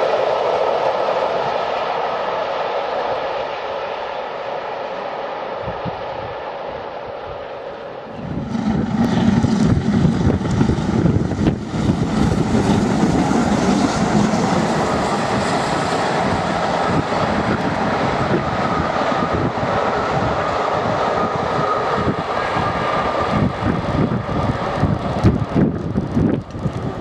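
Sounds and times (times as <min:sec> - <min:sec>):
steam locomotive exhaust: 0:00.0 - 0:27.0
train running at speed: 0:00.0 - 0:27.0.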